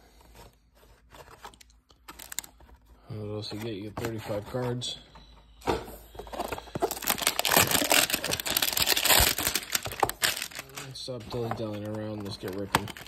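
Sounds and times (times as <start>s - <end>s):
cardboard crinkling and rustling: 0.0s - 4.9s, 6.1s - 13.0s.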